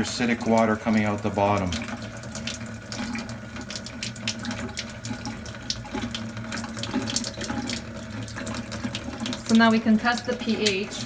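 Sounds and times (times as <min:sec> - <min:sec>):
water splashing into a sink: 0:00.0 - 0:11.0.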